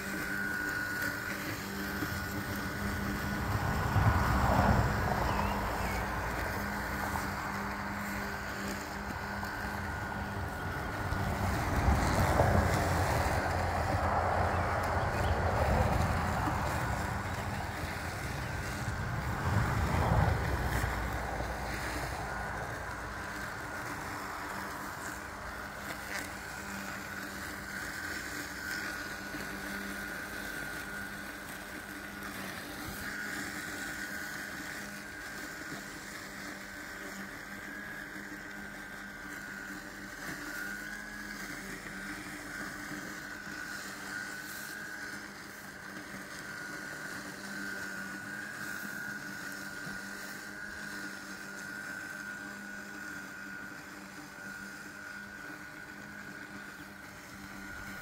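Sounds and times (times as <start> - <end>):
robotic lawn mower running: 0.0 - 58.0.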